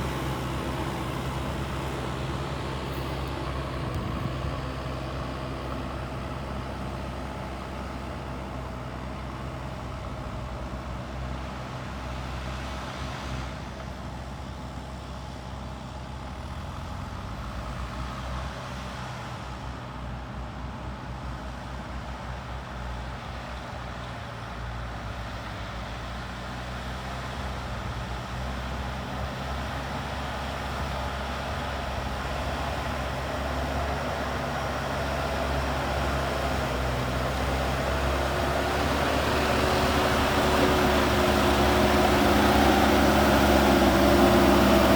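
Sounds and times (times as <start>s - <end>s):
diesel engine running: 0.0s - 18.3s, 27.0s - 44.9s.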